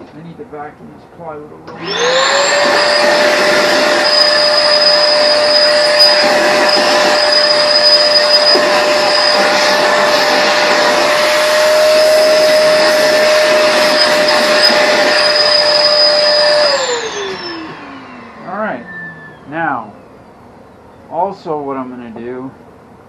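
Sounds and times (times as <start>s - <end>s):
shop vacuum running: 1.6s - 20.2s.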